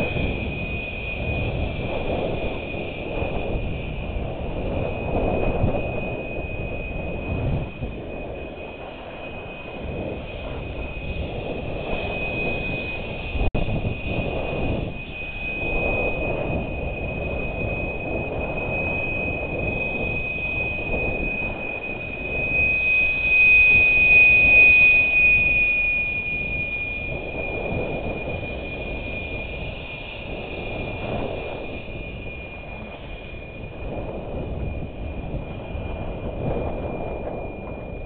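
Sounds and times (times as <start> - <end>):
steady high-pitched whine: 0.0 - 38.0
wind rushing over microphone: 0.0 - 38.0.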